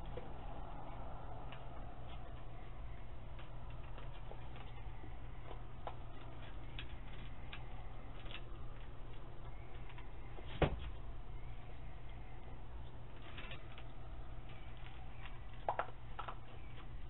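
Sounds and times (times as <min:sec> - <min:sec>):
animals crunching dry food: 0:00.0 - 0:17.0
steady low hum: 0:00.0 - 0:17.0.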